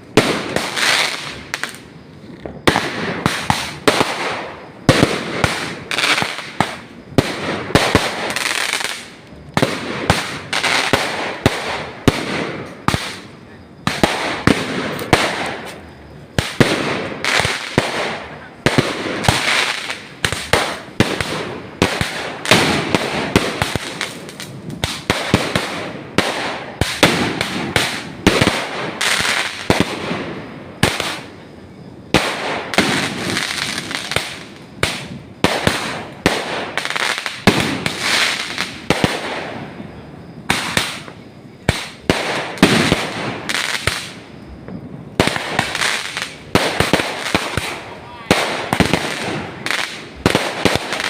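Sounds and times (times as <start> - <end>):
fireworks bangs: 0.0 - 51.0
fireworks crackle: 0.0 - 51.0.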